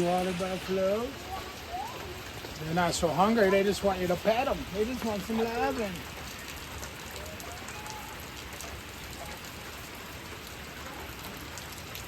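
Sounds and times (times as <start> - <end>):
steady rain-like noise: 0.0 - 12.0.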